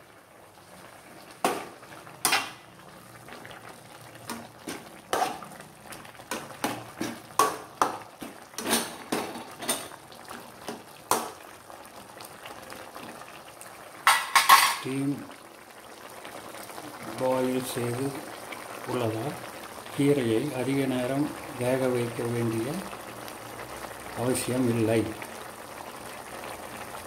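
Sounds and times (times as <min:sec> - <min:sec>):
soup bubbling: 0:00.0 - 0:27.0.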